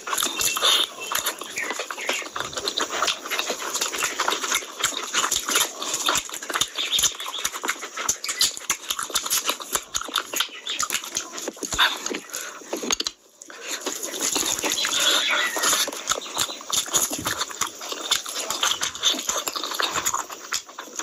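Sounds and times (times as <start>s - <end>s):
wet chewing and lip-smacking: 0.0s - 21.0s.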